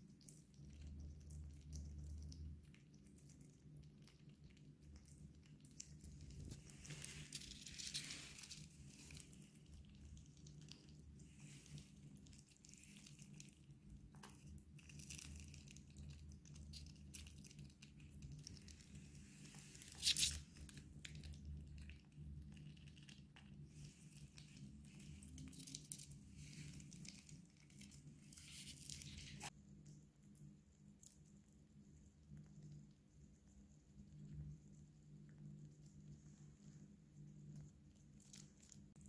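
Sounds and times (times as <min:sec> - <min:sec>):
chipmunk nibbling fruit: 0:00.0 - 0:36.2.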